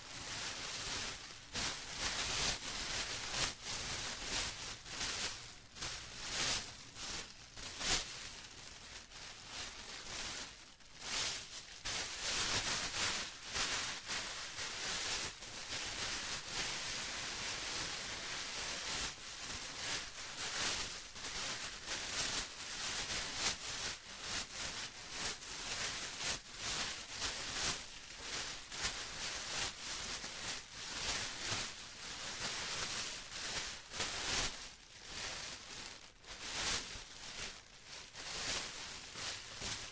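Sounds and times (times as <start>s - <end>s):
plastic crumpling and rustling: 0.0s - 39.9s.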